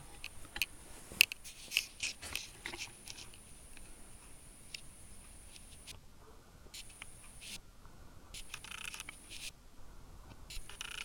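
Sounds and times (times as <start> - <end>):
faint scattered ticks: 0.1 - 6.0, 6.7 - 9.5, 10.3 - 11.0.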